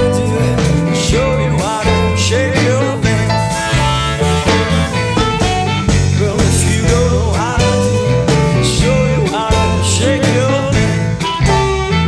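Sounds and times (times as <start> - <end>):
blues band playing: 0.0 - 12.0
harmonica bending notes: 0.0 - 12.0.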